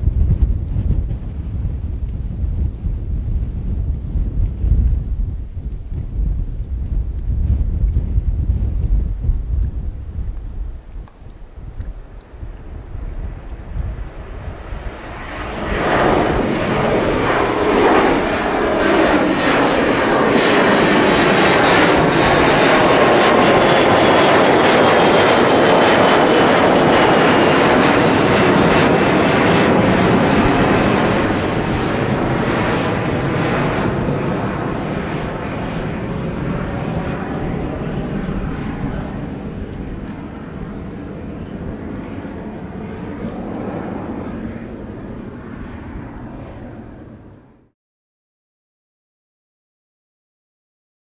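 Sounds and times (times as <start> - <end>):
jet airliner passing overhead: 0.0 - 47.7.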